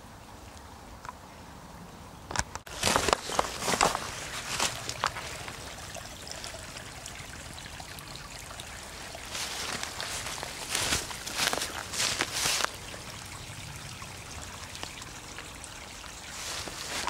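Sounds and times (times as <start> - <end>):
small stream trickling: 0.0 - 17.0.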